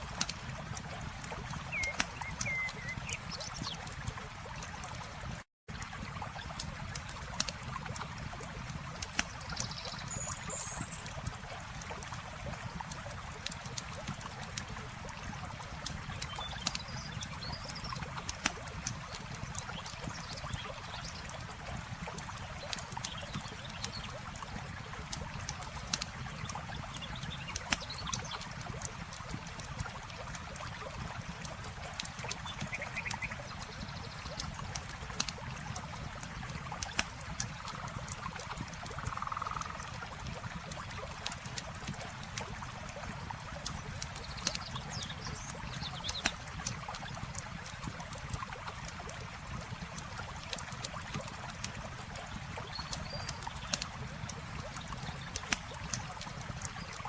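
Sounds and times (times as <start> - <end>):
campfire crackling and popping: 0.0 - 57.0
flowing water: 0.0 - 57.0.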